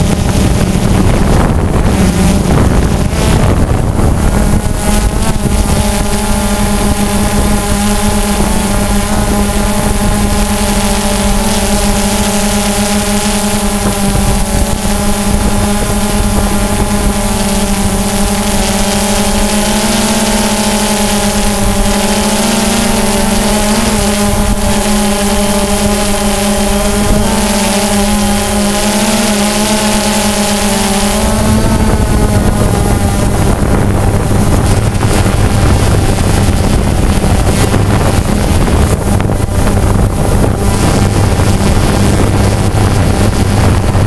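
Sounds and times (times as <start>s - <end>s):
drone propellers buzzing: 0.0s - 44.0s
wind noise: 0.0s - 44.0s.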